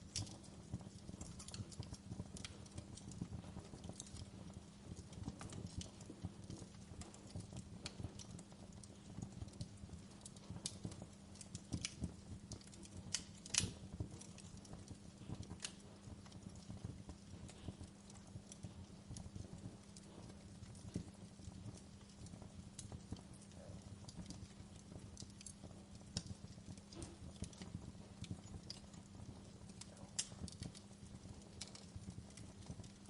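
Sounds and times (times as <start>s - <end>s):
burning wood popping: 0.0s - 33.0s
campfire crackling: 0.0s - 33.0s.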